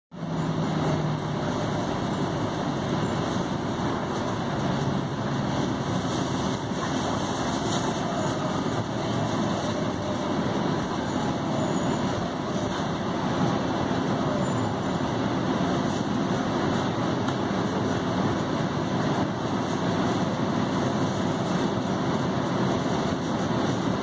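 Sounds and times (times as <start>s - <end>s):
bus engine and road noise: 0.1s - 24.0s.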